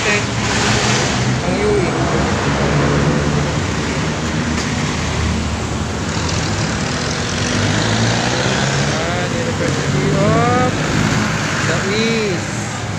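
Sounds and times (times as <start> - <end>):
passing cars and motorcycles: 0.0 - 12.9.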